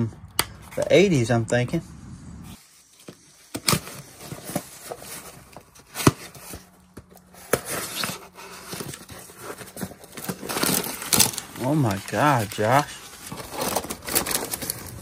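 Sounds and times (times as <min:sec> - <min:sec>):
cardboard box being handled: 0:02.9 - 0:15.0.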